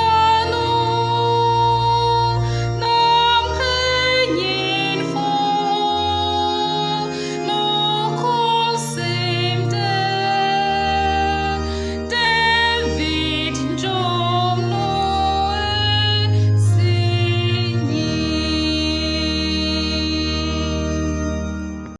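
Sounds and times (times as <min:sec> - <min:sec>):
woman singing long notes: 0:00.0 - 0:20.9
keyboard and bass accompaniment: 0:00.0 - 0:21.9.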